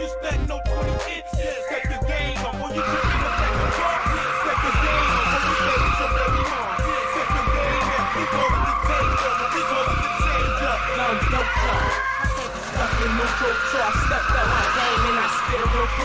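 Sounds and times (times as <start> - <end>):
car tyres squealing: 1.7 - 16.0.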